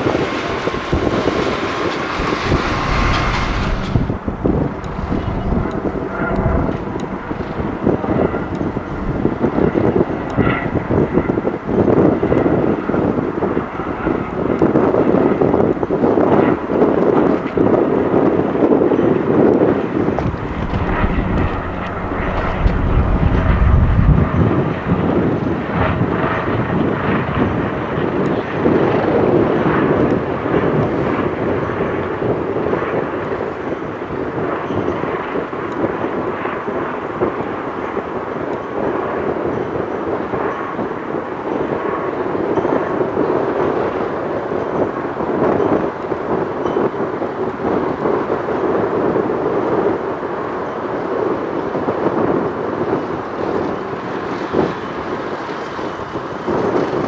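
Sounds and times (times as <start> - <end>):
helicopter passing overhead: 0.0 - 57.0.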